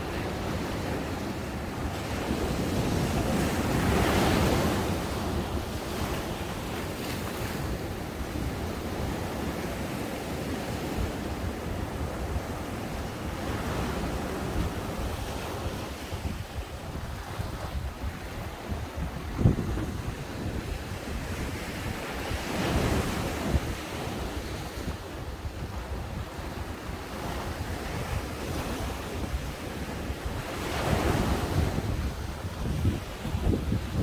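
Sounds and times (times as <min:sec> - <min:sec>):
ocean waves breaking on a beach: 0:00.0 - 0:34.0.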